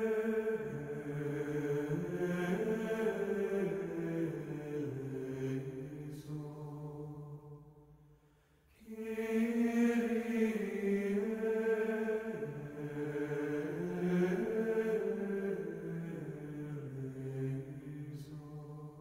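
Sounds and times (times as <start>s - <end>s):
voices singing slow chant: 0.0s - 7.9s, 8.7s - 19.0s.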